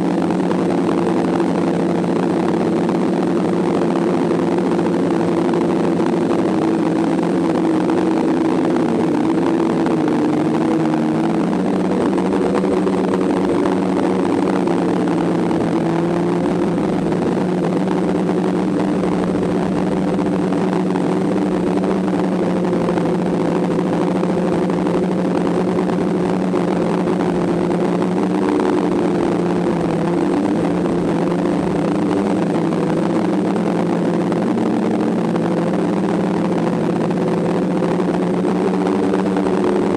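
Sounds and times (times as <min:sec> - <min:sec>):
drone propellers whirring: 0:02.0 - 0:39.9.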